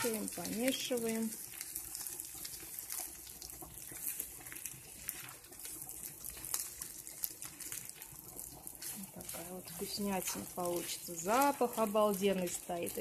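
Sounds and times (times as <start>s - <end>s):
chicken sizzling in oil: 0.0s - 13.0s
spatula scraping a pan: 0.0s - 13.0s.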